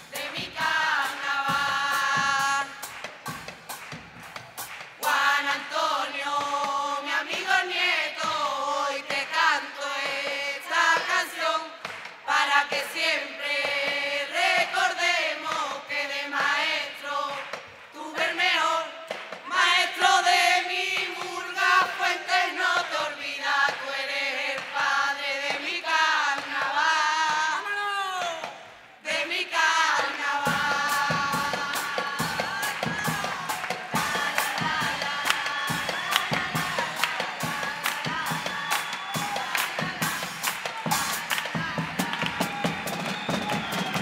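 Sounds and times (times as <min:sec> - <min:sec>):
mixed chorus singing: 0:00.0 - 0:44.0.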